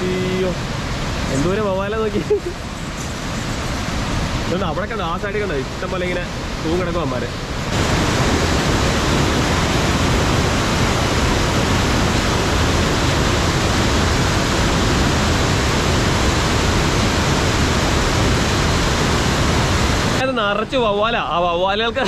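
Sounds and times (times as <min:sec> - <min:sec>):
flood water roaring into tunnel: 0:00.0 - 0:22.0.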